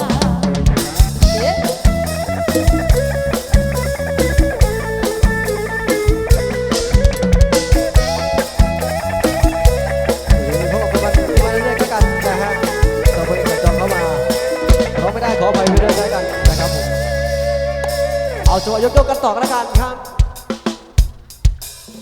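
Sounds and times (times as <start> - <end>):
drum kit beat: 0.0 - 22.0
live band playing: 0.0 - 22.0.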